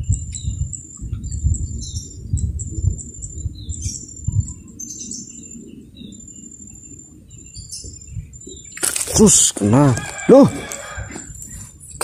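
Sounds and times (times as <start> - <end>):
birds chirping: 0.0 - 11.7.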